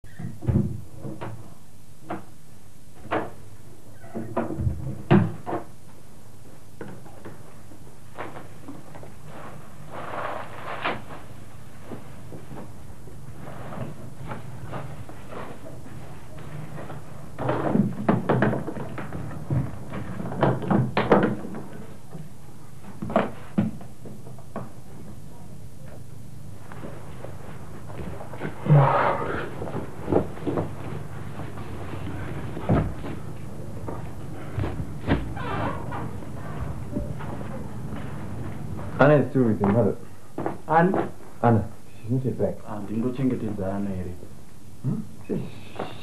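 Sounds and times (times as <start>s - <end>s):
steady low hum: 0.1s - 46.0s.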